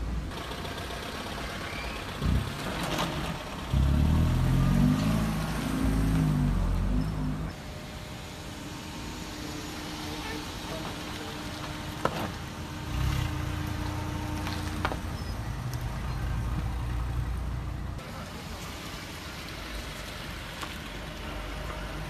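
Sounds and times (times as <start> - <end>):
minivan engine rumbling under load: 0.0 - 22.0.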